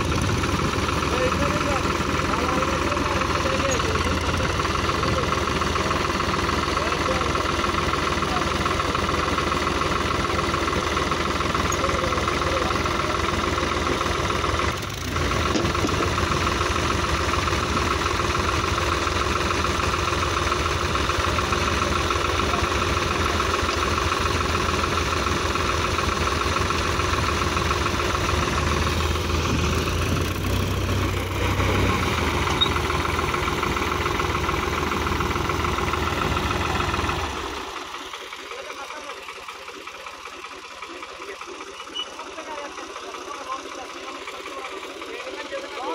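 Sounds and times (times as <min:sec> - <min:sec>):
tractor diesel engine knocking: 0:00.0 - 0:45.9.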